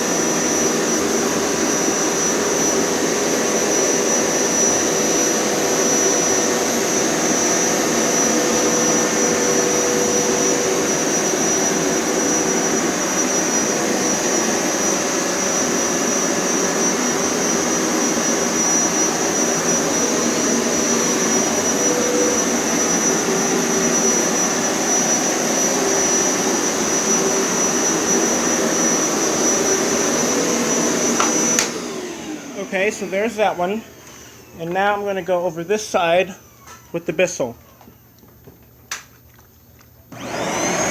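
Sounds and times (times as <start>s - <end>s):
carpet cleaner motor whining: 0.0s - 35.1s, 40.1s - 40.9s.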